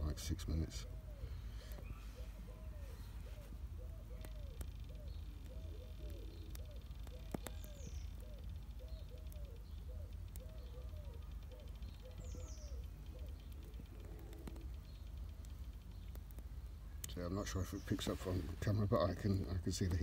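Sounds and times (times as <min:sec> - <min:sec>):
pigeons cooing: 0:00.0 - 0:20.0
small bird chirps: 0:00.4 - 0:20.0.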